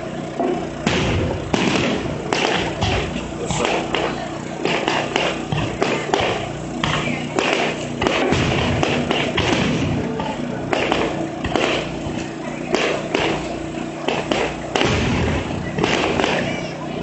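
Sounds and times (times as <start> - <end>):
firework crackling: 0.0 - 17.0
firework booms: 0.8 - 16.6.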